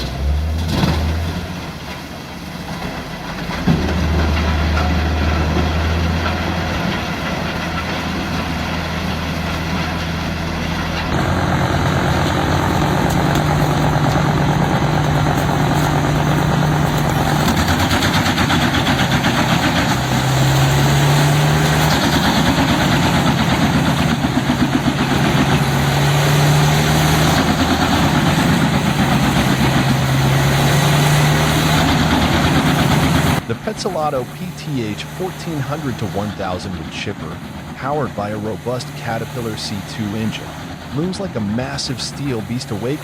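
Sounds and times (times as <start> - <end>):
wood chipper grinding: 0.0 - 43.0.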